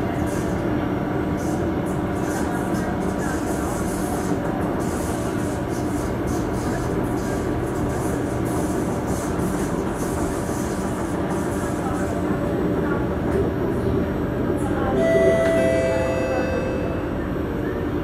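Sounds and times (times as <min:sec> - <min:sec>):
metro train wheels rumbling: 0:00.0 - 0:18.0.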